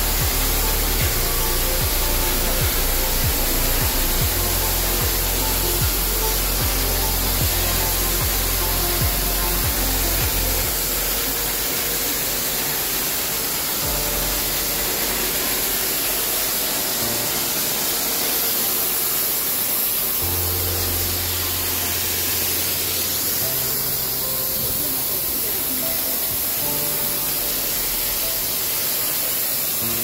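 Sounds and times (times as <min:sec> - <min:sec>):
loud steady hiss: 0:00.0 - 0:30.0.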